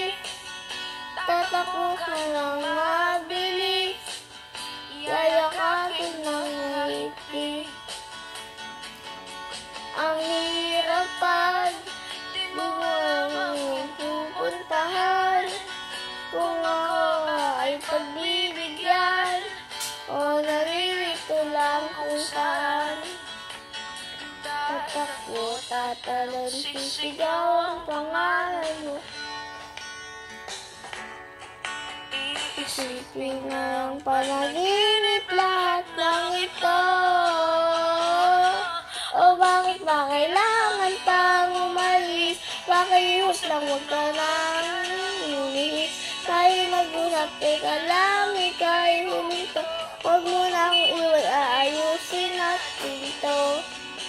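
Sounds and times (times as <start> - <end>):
boy singing slow song: 0.0 - 0.5, 1.1 - 8.0, 9.8 - 23.4, 24.1 - 29.1, 32.1 - 54.0.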